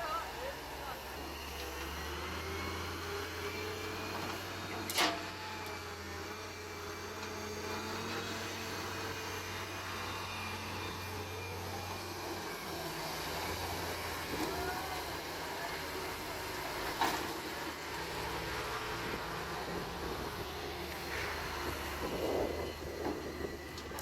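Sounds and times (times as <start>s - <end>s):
digging machine engine running: 0.0s - 24.0s.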